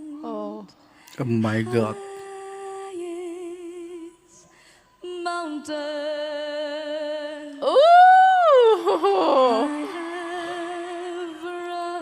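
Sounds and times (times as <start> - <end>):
woman singing with vibrato: 0.0 - 0.8, 1.4 - 12.0.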